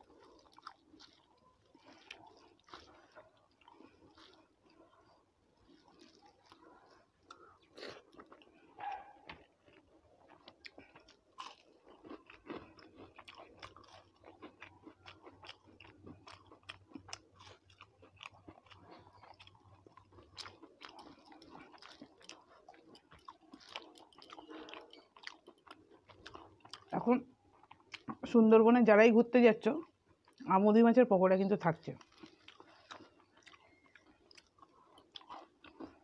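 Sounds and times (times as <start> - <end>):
chewing crunchy food: 0.0 - 28.4, 29.8 - 30.5, 31.8 - 36.0.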